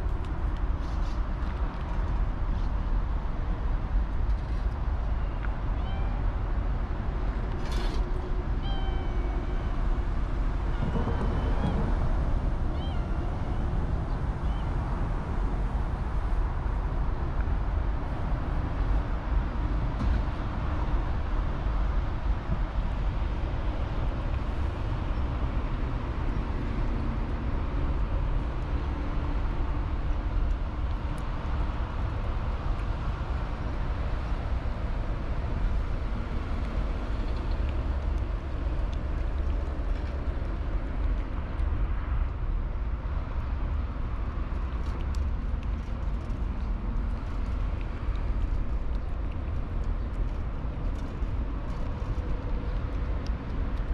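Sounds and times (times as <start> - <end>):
city traffic rumble: 0.0 - 53.9.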